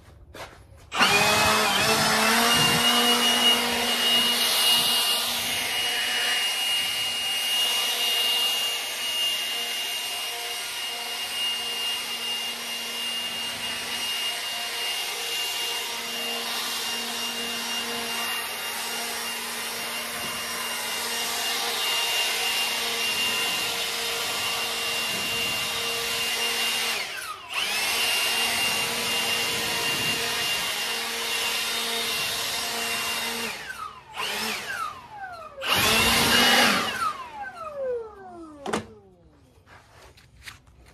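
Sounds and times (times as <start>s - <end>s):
leaf blower whining: 0.8s - 40.9s.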